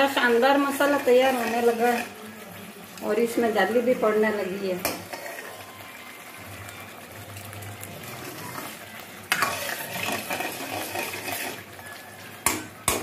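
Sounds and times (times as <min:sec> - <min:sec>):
ladle stirring and scraping: 0:00.0 - 0:13.0
low sizzle: 0:00.0 - 0:13.0.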